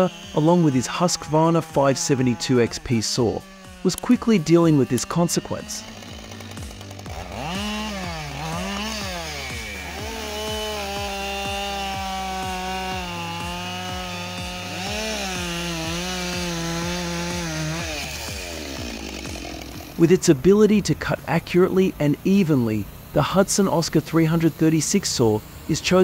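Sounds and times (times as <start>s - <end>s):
chainsaw revving and cutting log: 0.0s - 26.0s.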